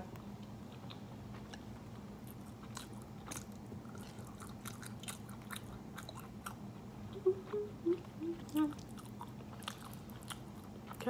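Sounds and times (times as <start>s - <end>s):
low steady hum: 0.0s - 11.0s
chewing noodles: 0.7s - 11.0s.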